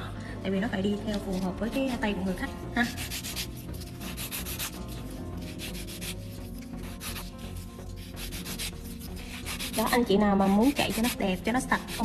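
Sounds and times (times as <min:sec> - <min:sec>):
nail file rubbing on nail: 0:01.1 - 0:12.0.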